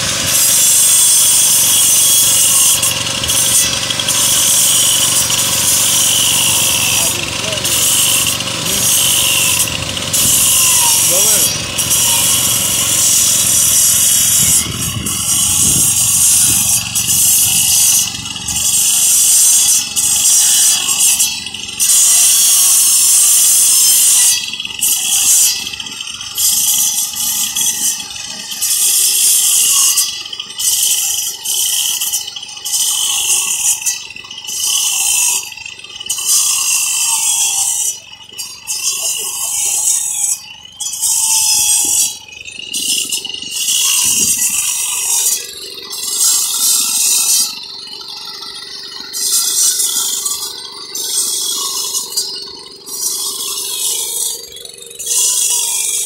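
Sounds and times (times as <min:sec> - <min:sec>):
wall cutter grinding into masonry: 0:00.0 - 0:56.0.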